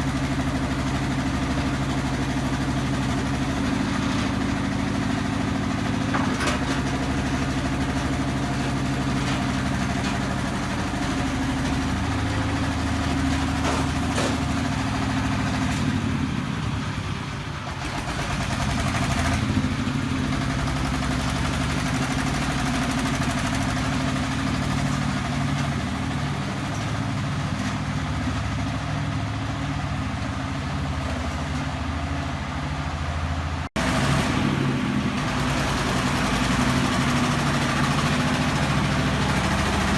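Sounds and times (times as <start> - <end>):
concrete mixer engine running: 0.0 - 39.9.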